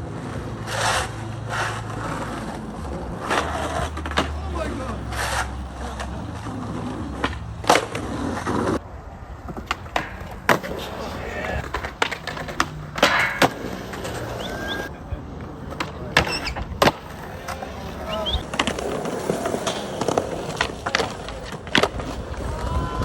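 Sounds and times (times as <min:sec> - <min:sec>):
skateboards clacking and slapping: 0:00.0 - 0:23.0
skateboards rolling on hard ground: 0:00.0 - 0:23.0.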